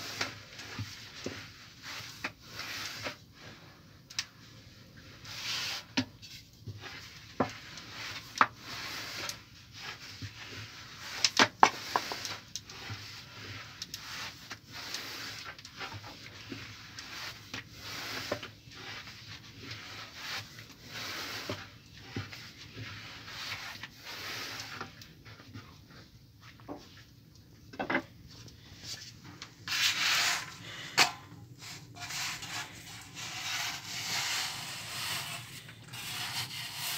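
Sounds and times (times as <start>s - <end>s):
rolling pin swishing over dough: 0.0s - 36.9s.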